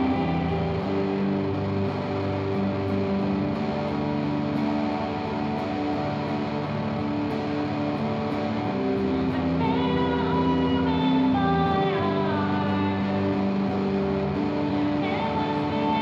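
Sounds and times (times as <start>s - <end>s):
electric guitar strumming chords: 0.0s - 16.0s.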